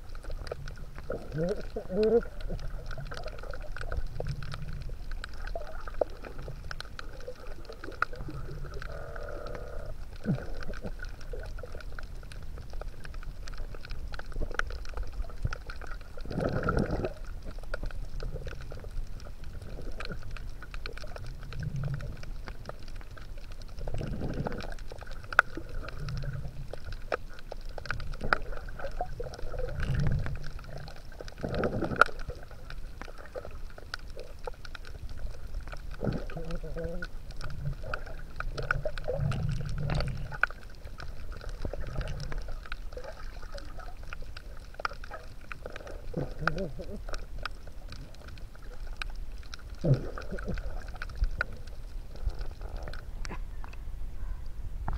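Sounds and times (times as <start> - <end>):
muffled underwater gurgling: 0.0 - 54.9
water surges: 0.0 - 54.9.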